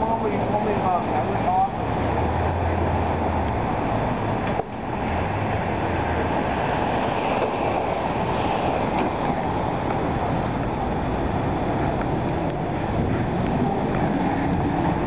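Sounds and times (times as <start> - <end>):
wind buffeting microphone: 0.8 - 15.0.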